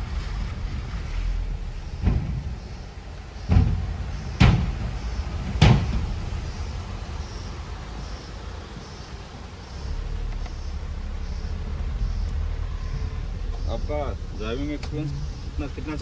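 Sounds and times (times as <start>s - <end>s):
car thudding over rough road: 0.0s - 16.0s
low road rumble in car cabin: 0.0s - 16.0s.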